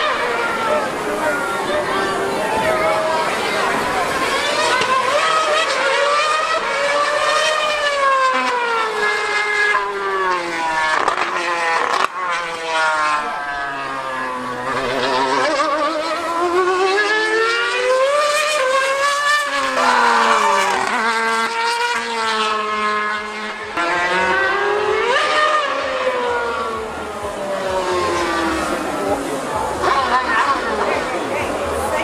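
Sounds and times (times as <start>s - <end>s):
race car engine screaming: 0.0s - 32.0s.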